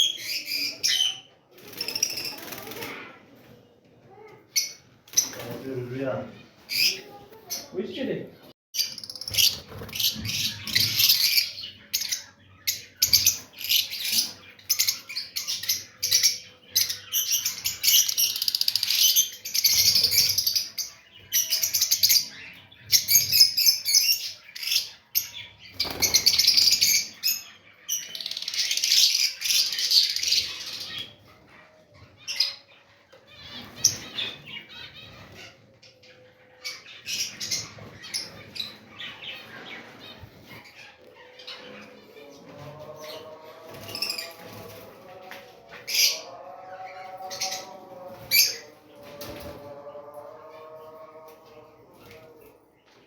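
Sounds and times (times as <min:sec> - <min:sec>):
small birds chirping: 0:00.0 - 0:49.6.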